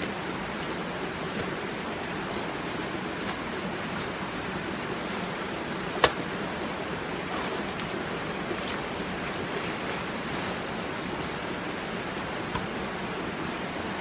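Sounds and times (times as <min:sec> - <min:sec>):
rushing stream: 0:00.0 - 0:14.0.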